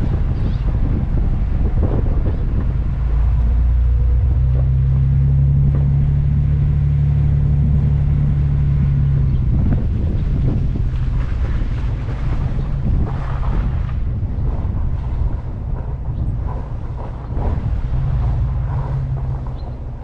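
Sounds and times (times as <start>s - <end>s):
rumbling noise: 0.0s - 20.0s
truck engine droning: 0.0s - 20.0s.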